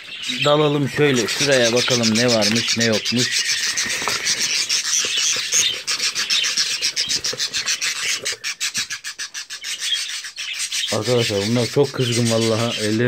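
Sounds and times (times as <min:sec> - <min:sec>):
budgerigars raspy chatter: 0:00.0 - 0:13.0.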